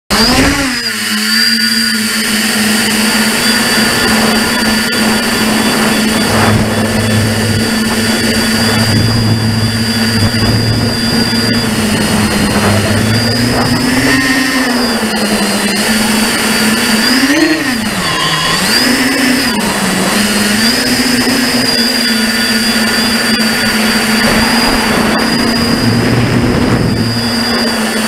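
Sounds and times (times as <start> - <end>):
drone motors whining: 0.1 - 28.0.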